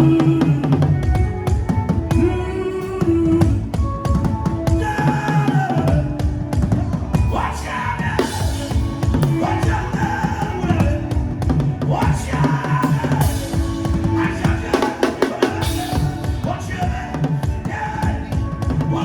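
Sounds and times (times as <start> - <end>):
backing music with bass line: 0.0 - 19.0
fast drum kit playing: 0.0 - 19.0.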